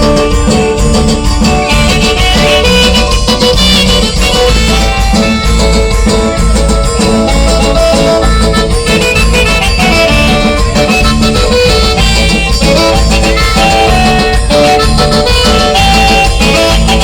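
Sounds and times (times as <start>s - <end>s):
band playing instrumental music: 0.0s - 17.0s.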